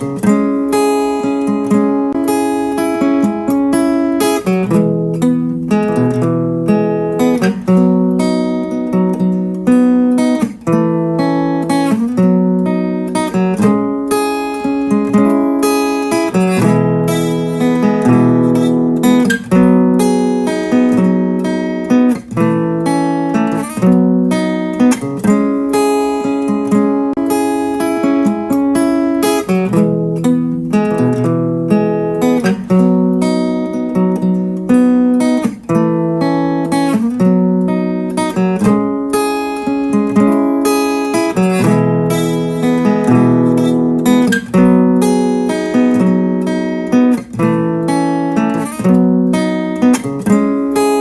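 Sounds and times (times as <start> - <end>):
acoustic guitar strumming chords: 0.0 - 51.0.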